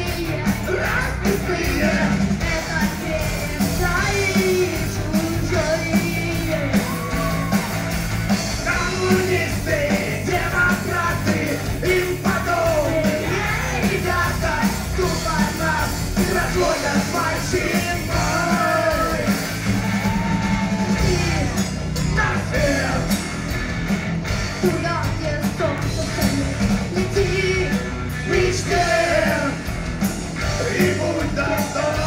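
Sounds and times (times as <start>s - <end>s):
lead singer singing: 0.0s - 7.6s, 8.6s - 23.2s, 24.6s - 29.7s, 30.4s - 32.0s
drum kit: 0.0s - 32.0s
electric guitars: 0.0s - 32.0s.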